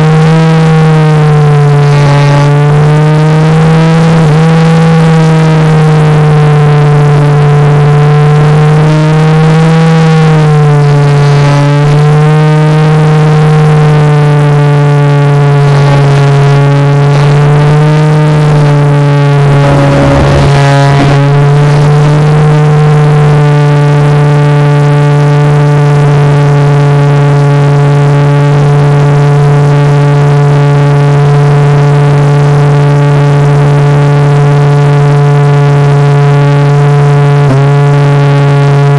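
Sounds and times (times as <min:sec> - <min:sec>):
model airplane motor droning: 0:00.0 - 0:36.4.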